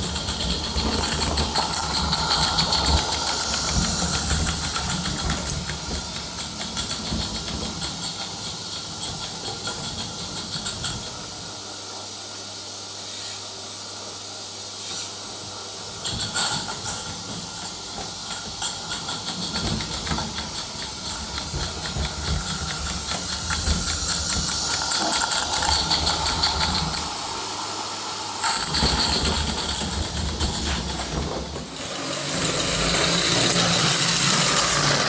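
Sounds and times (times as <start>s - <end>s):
model train wheels rumbling on rails: 0.0s - 11.9s, 15.8s - 35.0s
steam hissing: 0.0s - 35.0s.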